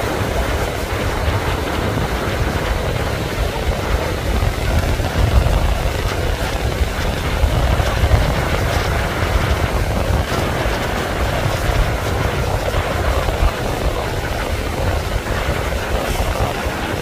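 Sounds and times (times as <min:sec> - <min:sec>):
surf breaking: 0:00.0 - 0:17.0
wind buffeting microphone: 0:00.0 - 0:17.0.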